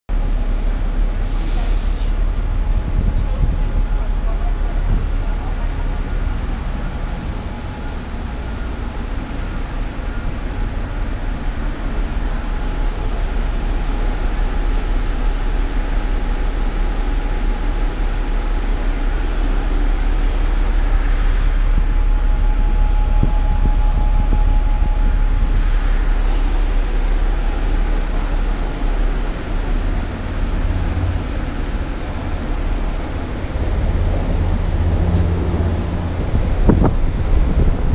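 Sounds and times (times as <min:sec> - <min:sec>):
diesel bus engines idling: 0:00.1 - 0:37.9
faint steady whine: 0:02.2 - 0:37.9.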